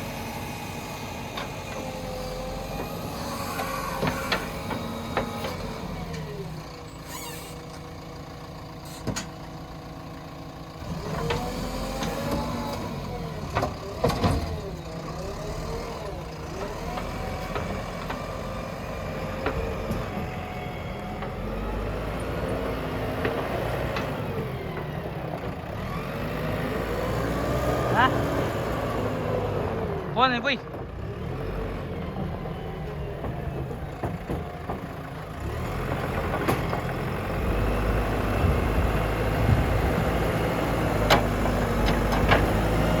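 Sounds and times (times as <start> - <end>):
diesel engine under load: 0.0 - 43.0.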